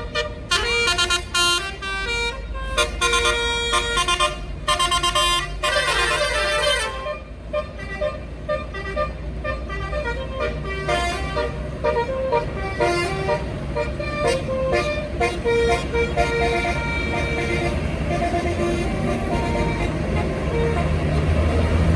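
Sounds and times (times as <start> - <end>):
bus engine rumble: 0.0 - 21.9
multi-tone bus horn melody: 0.0 - 21.9.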